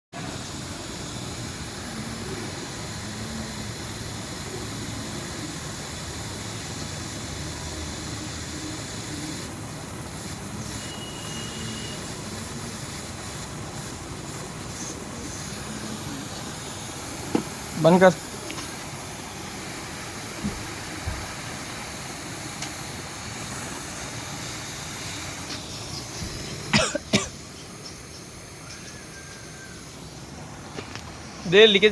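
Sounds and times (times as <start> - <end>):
air conditioner hissing rush: 0.1 - 31.9.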